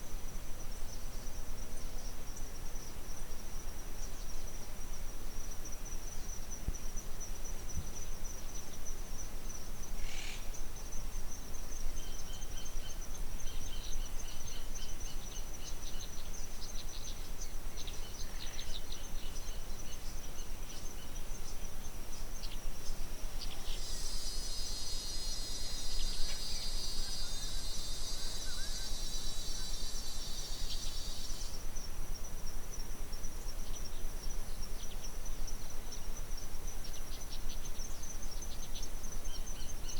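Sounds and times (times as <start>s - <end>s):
outdoor background noise: 0.0s - 39.9s
high-pitched insect trill: 0.3s - 39.9s.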